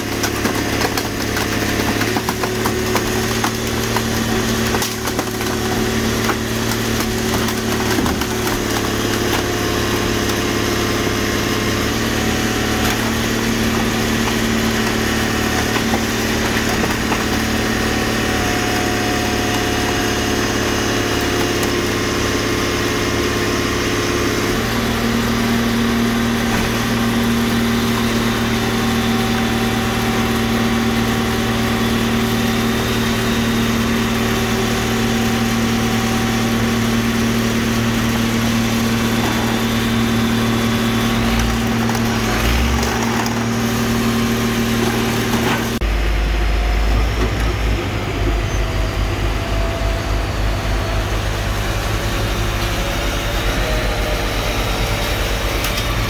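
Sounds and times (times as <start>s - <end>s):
engine and hydraulic pump running: 0.0s - 56.0s.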